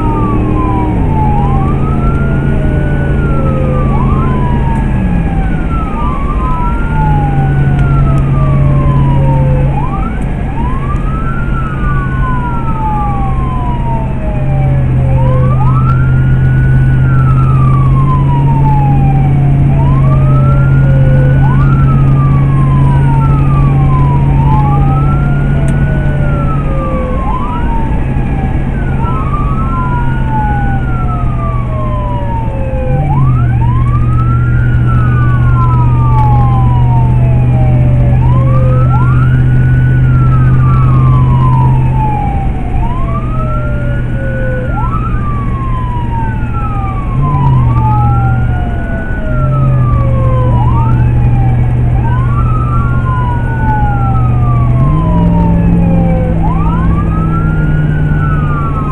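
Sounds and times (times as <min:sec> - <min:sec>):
electronic siren wailing: 0:00.0 - 0:58.9.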